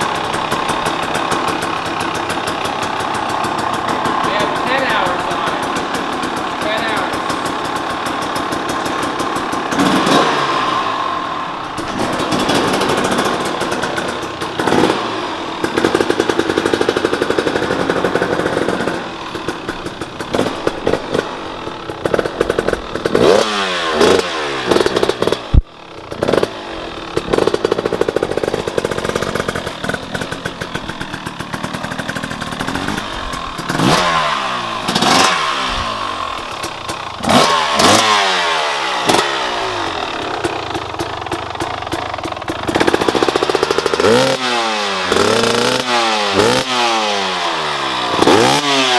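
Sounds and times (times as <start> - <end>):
two-stroke engine revving: 0.0 - 48.9.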